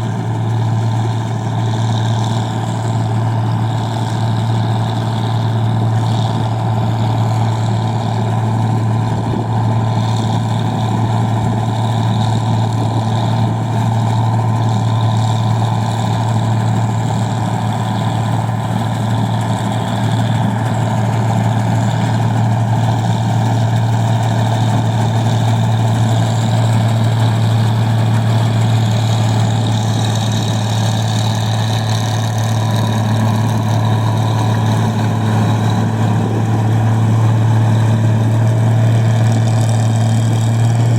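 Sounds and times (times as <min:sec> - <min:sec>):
machine engine running: 0:00.0 - 0:40.9.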